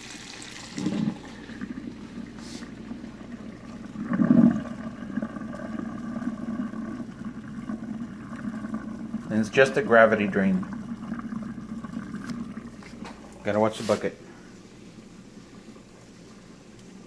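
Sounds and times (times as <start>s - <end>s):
water gurgling through drain hose: 0.0s - 17.0s.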